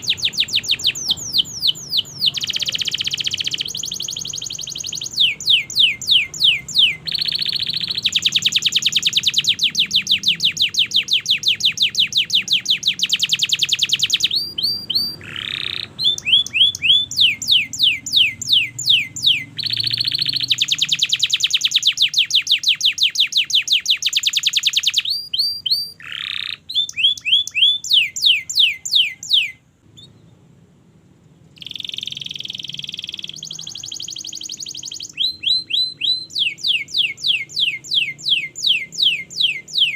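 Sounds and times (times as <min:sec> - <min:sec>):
canary singing trills: 0:00.0 - 0:30.6, 0:31.5 - 0:39.9.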